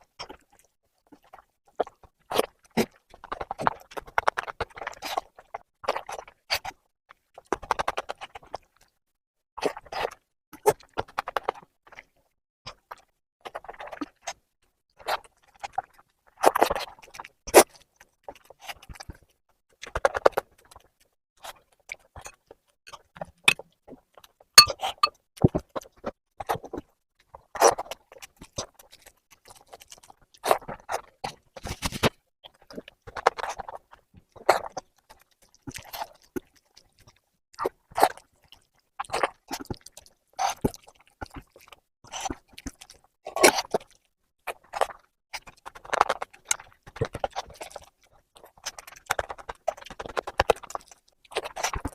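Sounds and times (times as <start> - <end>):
wet chewing and mouth smacking: 0.2 - 9.0, 9.6 - 24.7, 25.5 - 31.4, 32.5 - 51.9.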